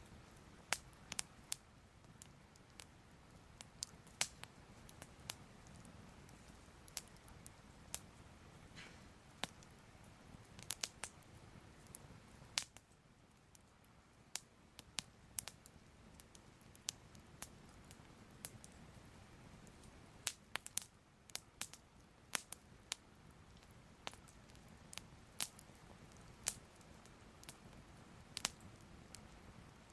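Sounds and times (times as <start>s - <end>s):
faint low hiss: 0.0s - 29.9s
fire crackling and popping: 0.0s - 29.9s.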